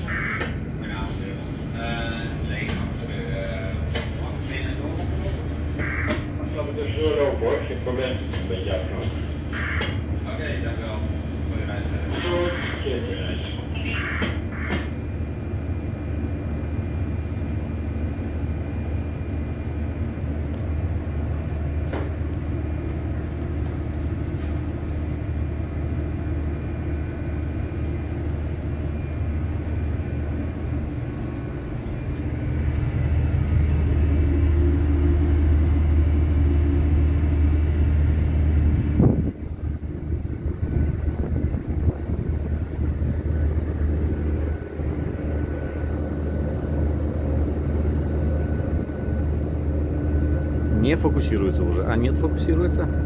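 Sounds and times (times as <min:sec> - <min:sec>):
boat engines droning: 0:00.0 - 0:53.0.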